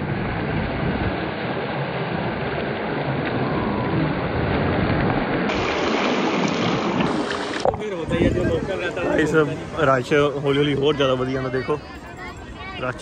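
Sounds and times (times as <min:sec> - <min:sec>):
sea surf washing in: 0:00.0 - 0:11.9
wind rumbling on microphone: 0:00.0 - 0:13.0.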